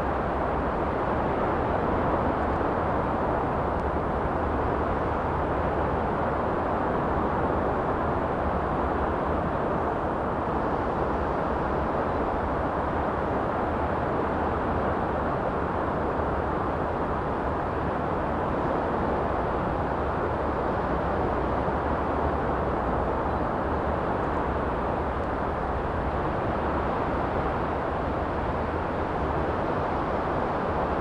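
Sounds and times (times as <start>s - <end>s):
waves washing onto beach: 0.0s - 31.0s.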